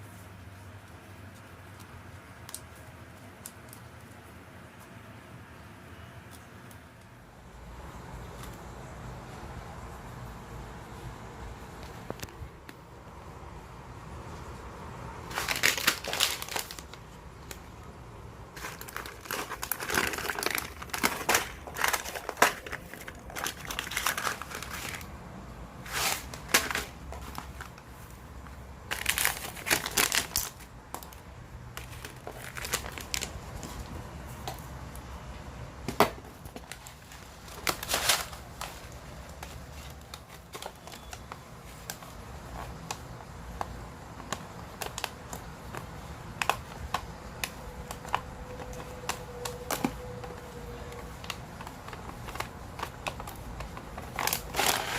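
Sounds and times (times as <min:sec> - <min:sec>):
crinkling and rustling by hand: 0:00.0 - 0:54.9.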